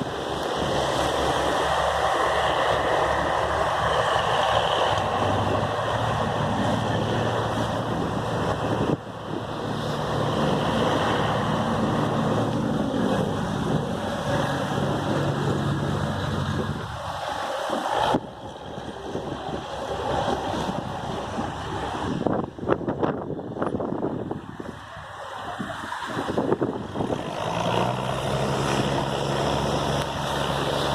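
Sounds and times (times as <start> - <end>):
boat engine humming: 0.0 - 30.9
surf rushing: 0.0 - 30.9
wind on microphone: 0.0 - 30.9.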